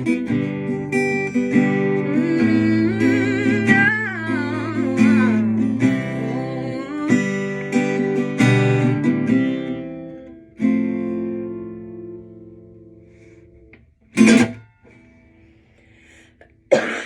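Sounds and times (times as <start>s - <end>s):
acoustic guitar strumming chords: 0.0s - 16.1s.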